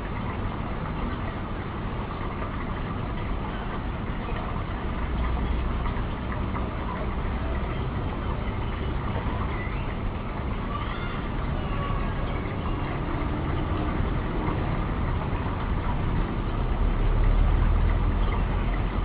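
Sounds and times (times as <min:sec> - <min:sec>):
steady low rumbling: 0:00.0 - 0:19.0.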